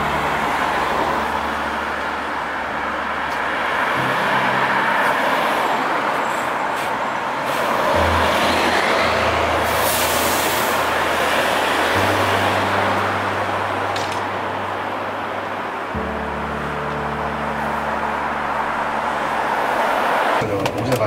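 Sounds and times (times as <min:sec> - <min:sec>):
background music bass line: 0:00.0 - 0:05.4, 0:08.0 - 0:20.2
vehicle road and engine noise: 0:00.0 - 0:21.0.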